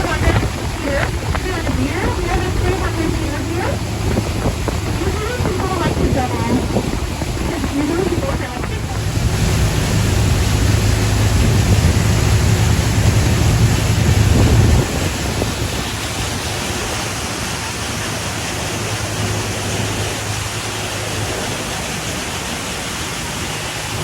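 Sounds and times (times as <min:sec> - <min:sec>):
boat engine rumble: 0:00.0 - 0:24.0
water rushing: 0:00.0 - 0:24.0
wind: 0:00.0 - 0:24.0.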